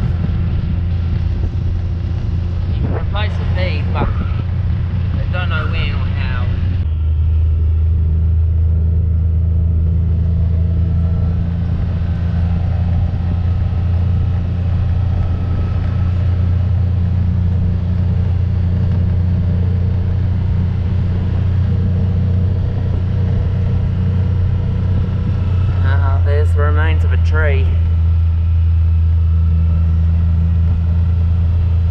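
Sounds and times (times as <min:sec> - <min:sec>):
vehicle engine droning: 0:00.0 - 0:31.9.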